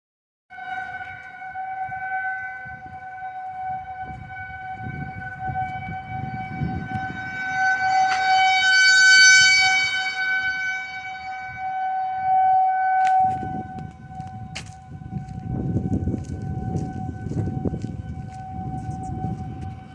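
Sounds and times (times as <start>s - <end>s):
warning siren steady tone: 0.5s - 19.9s.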